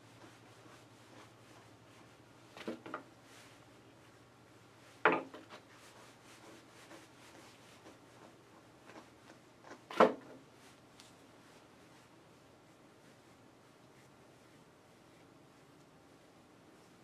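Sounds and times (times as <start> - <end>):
brush rubbing through fur: 0.0 - 17.0
low steady hum: 0.0 - 17.0.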